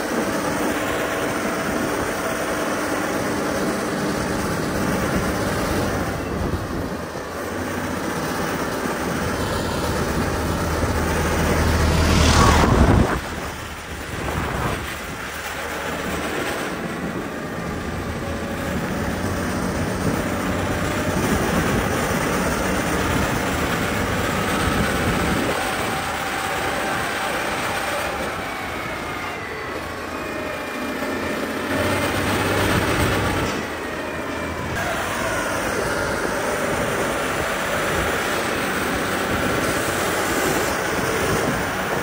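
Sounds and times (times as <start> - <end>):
diesel machinery rumbling: 0.0 - 42.0.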